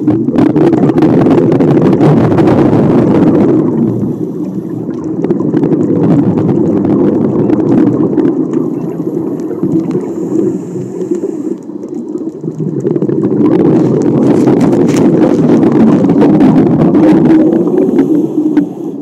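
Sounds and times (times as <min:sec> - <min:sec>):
muffled underwater rumble: 0:00.0 - 0:19.0.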